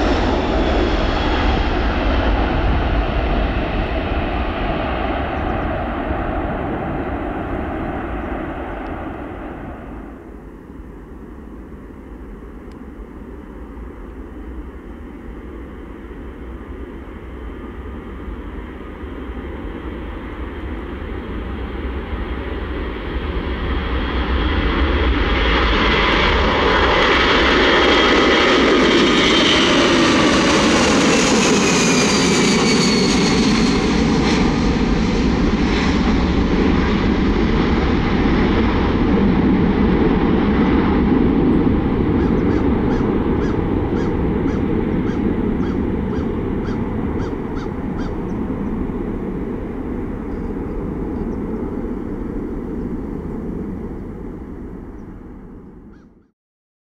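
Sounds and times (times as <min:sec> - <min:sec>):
jet roar with whining tones: 0:00.0 - 0:55.9.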